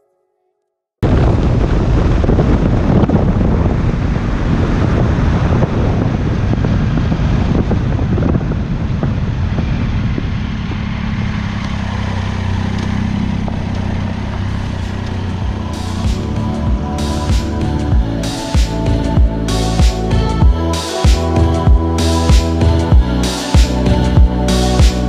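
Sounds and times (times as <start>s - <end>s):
motorcycle engine hum: 1.0s - 25.0s
wind rush over microphone: 1.0s - 25.0s.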